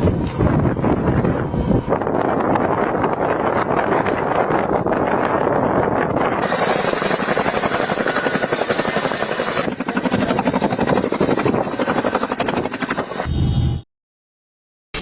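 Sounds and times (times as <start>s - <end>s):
aircraft drone with chopping pulse: 0.0s - 13.8s.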